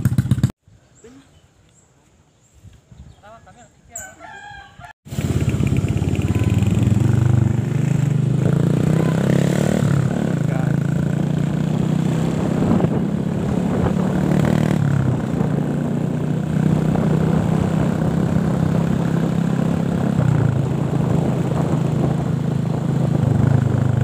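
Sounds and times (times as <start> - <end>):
motorcycle engine running: 0.0 - 0.5, 5.1 - 24.0.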